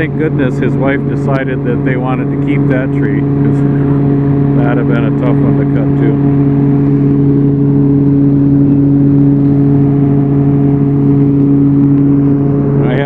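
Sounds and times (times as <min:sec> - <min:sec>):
tracked machine engine running: 0:00.0 - 0:13.0.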